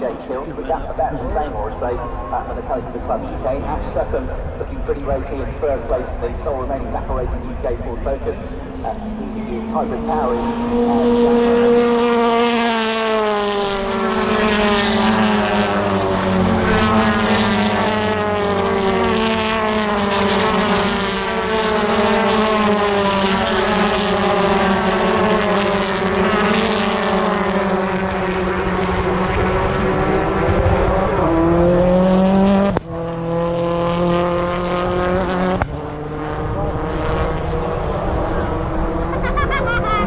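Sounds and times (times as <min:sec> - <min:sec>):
engine drone falling in pitch: 0:00.0 - 0:40.0
second engine rising in pitch: 0:00.0 - 0:40.0.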